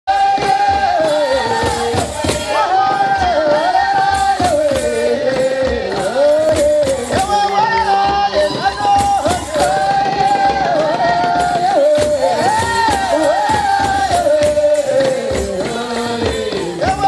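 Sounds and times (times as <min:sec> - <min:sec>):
percussive strikes: 0:00.1 - 0:17.0.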